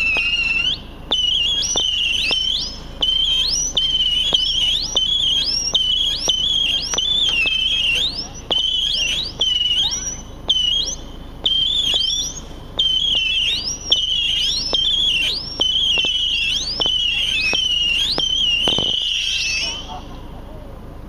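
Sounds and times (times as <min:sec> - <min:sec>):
firework whistling missiles: 0:00.0 - 0:20.4.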